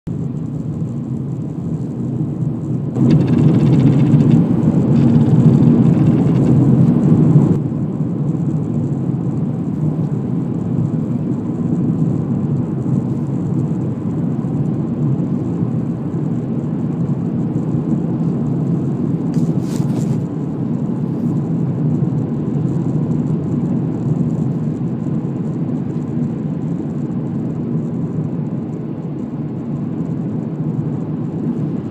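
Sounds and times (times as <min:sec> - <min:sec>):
car low rumble and whir: 0:00.1 - 0:31.9.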